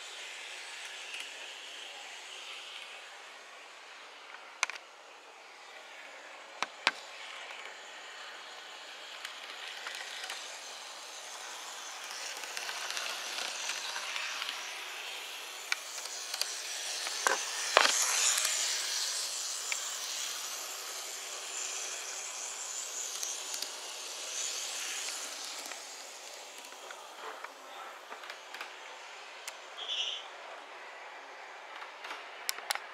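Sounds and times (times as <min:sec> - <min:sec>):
model tram motor whirring: 0:00.0 - 0:29.9.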